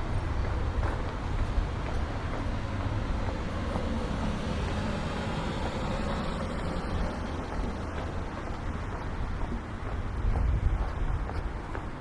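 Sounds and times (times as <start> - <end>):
street ambience low rumble: 0.0 - 12.0.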